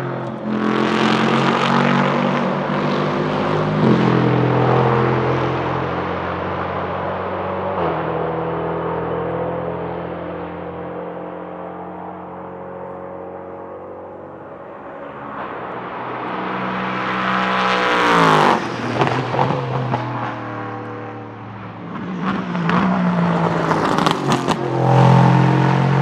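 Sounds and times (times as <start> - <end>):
race car engine passing: 0.0 - 26.0.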